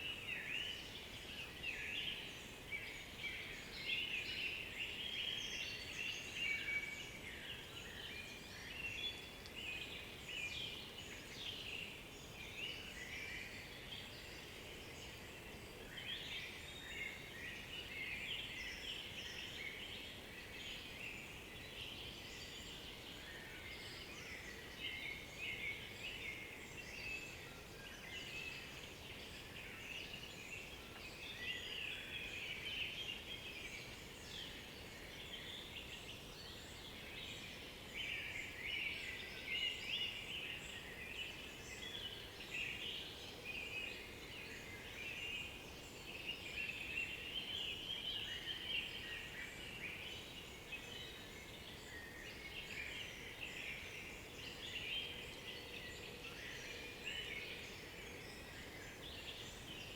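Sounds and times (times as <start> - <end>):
faint steady background hiss: 0.0 - 59.9
songbirds chirping and trilling: 0.0 - 59.9.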